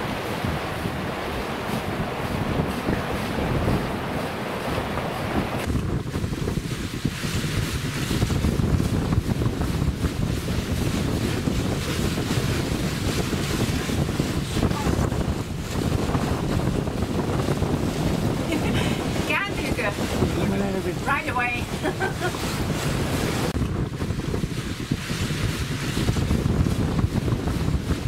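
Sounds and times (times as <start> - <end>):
water rushing past boat hull: 0.0 - 28.0
wind buffeting microphone: 0.0 - 28.0.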